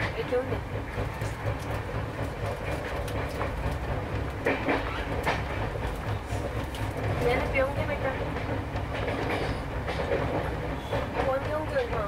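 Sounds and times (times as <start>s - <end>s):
train rumbling on rails: 0.0s - 12.0s
wheel clacks over rail joints: 0.0s - 12.0s.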